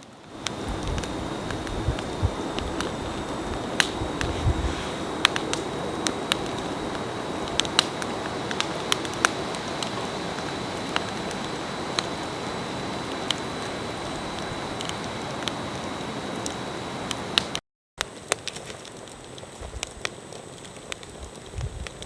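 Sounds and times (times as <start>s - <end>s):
campfire crackling and popping: 0.0s - 22.0s
fire hissing: 0.0s - 22.0s.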